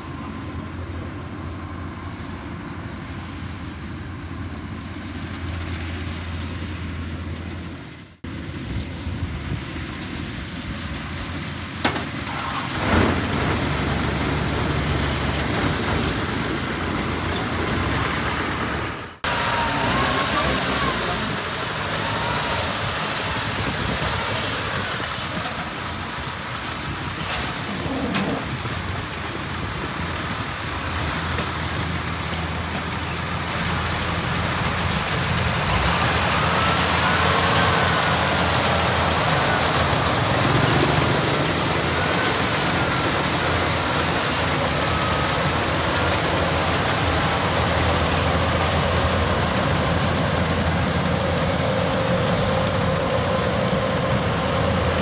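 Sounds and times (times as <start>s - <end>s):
combine harvester running: 0.0s - 55.0s
crawler engine running: 0.0s - 55.0s.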